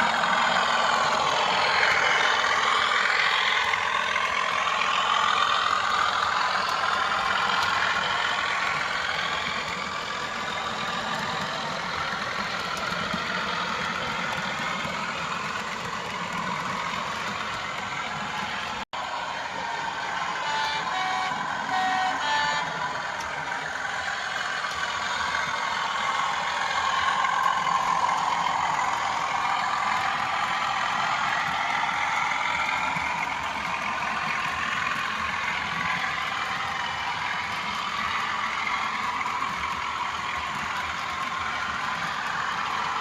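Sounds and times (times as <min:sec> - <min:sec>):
diesel engine sound from small speaker: 0:00.0 - 0:43.0.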